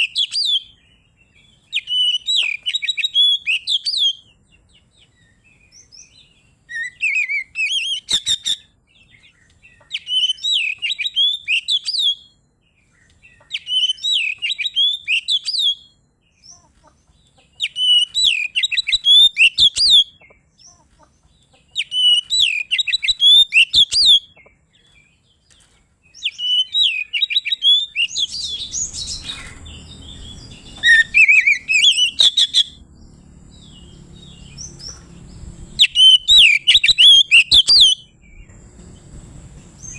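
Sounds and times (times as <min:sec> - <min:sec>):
bird singing whistled song: 0:00.0 - 0:16.6, 0:17.6 - 0:20.5, 0:21.8 - 0:25.4, 0:26.1 - 0:39.0
low background hum: 0:00.0 - 0:39.9.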